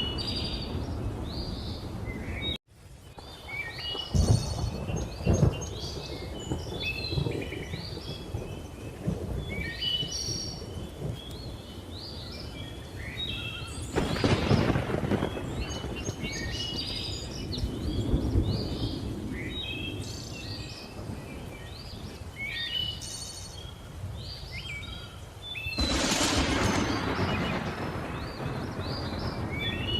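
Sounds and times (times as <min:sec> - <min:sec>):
thunder rumbling: 0:00.0 - 0:12.5, 0:13.6 - 0:22.2, 0:25.8 - 0:29.9
birds chirping: 0:00.0 - 0:29.9.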